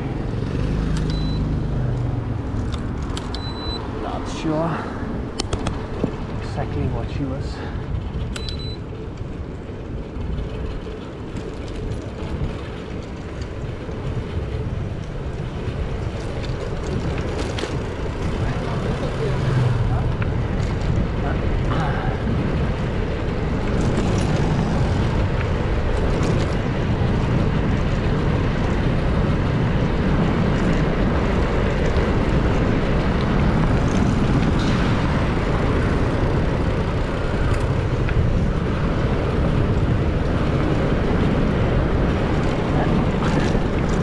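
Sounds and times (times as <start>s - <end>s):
tyres on wet asphalt: 0.0s - 44.0s
wind noise: 0.0s - 44.0s.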